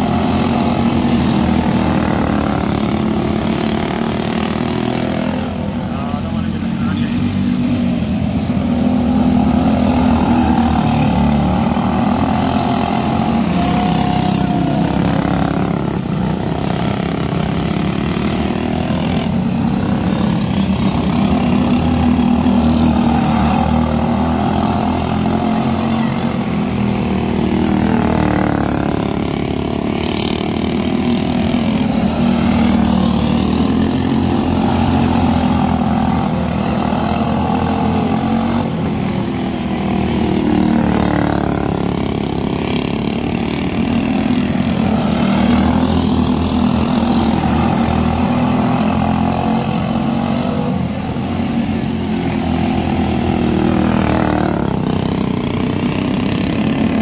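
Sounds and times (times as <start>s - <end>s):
kart engines racing: 0.0s - 57.0s.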